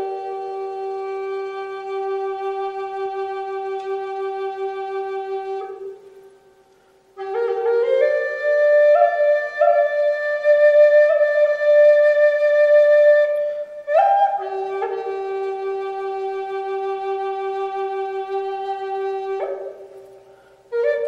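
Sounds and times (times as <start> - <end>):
slow solo woodwind melody: 0.0 - 21.0.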